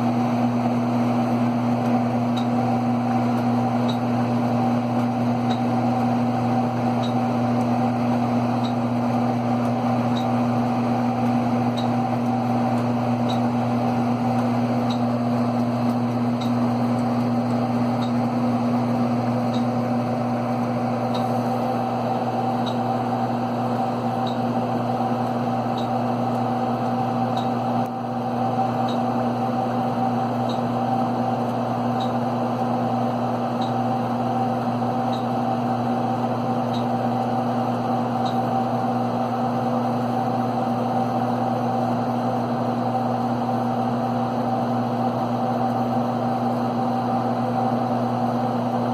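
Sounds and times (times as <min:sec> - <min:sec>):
computer fans humming: 0:00.0 - 0:48.9.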